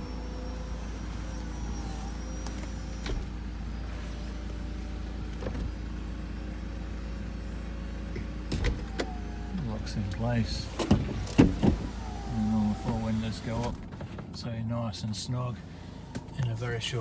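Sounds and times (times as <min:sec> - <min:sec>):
roof motor humming: 0:00.0 - 0:14.1, 0:14.8 - 0:17.0.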